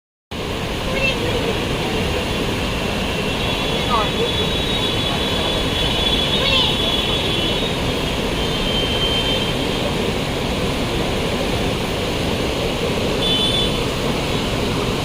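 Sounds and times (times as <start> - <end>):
river rushing in flood: 0.4 - 15.0.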